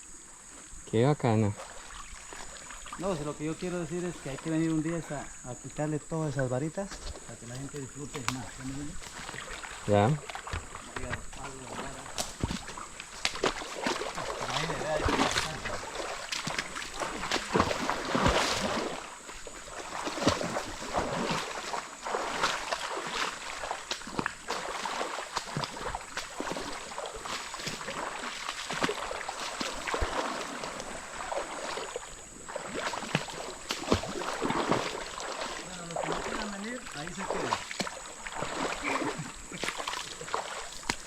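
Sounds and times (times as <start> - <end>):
river water splashing: 0.0 - 41.0.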